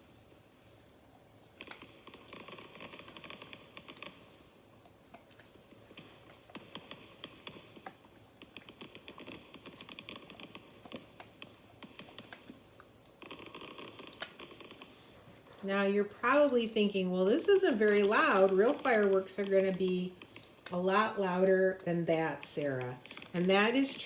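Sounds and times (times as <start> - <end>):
crackling hiss: 1.0 - 21.7.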